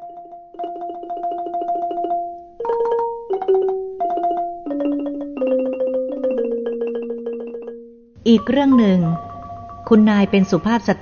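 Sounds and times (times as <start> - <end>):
quickly repeated struck notes: 0.0 - 10.8.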